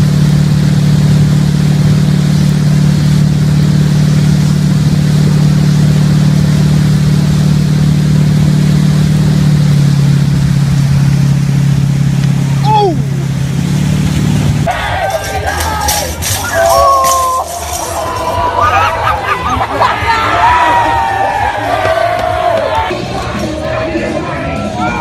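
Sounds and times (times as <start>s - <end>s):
water rushing from wake: 0.0s - 22.8s
boat engine humming: 0.0s - 25.0s.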